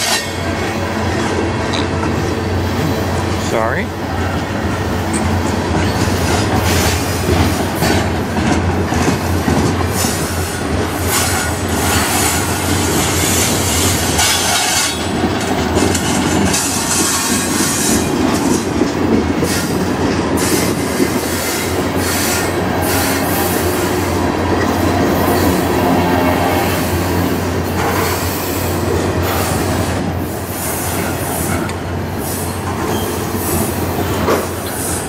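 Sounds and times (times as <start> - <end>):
train wheels clacking over rails: 0.0 - 35.0.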